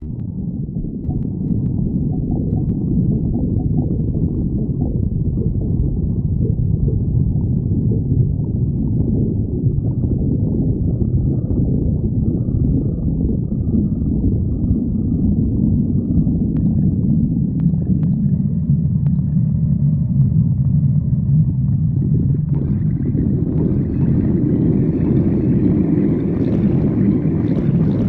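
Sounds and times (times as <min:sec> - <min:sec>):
stomach growling: 0:00.0 - 0:28.0.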